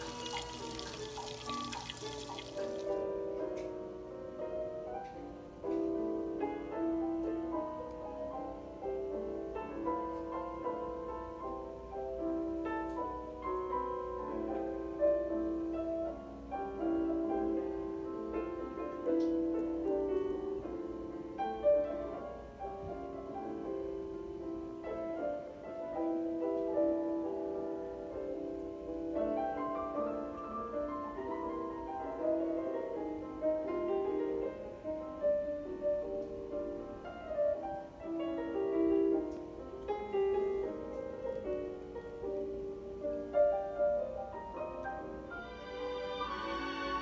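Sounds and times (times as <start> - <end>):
instrumental music held notes: 0.0 - 47.0.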